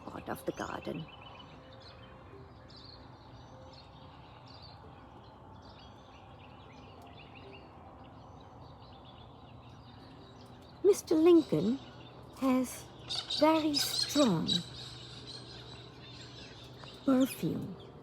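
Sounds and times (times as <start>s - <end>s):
low background noise: 0.0s - 18.0s
small birds chirping: 0.0s - 18.0s.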